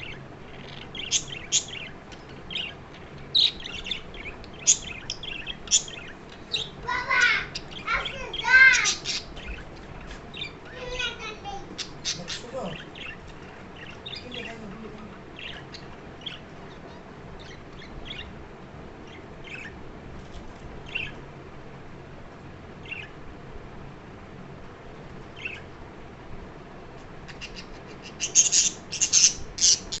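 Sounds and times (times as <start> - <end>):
birds chirping: 0.0 - 23.4, 24.1 - 30.0.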